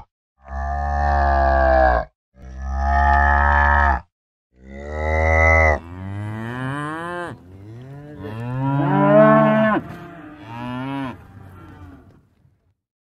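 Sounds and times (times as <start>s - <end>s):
cow mooing: 0.4s - 4.0s, 4.6s - 12.3s.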